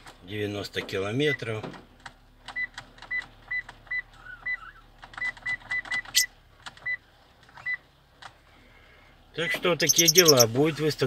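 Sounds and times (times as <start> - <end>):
faint steady hum: 1.2 - 11.0.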